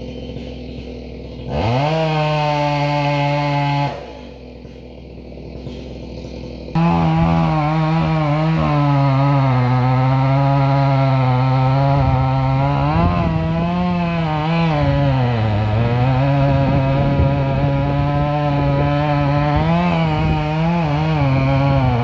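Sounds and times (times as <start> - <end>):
chainsaw engine at high revs: 0.0 - 22.0.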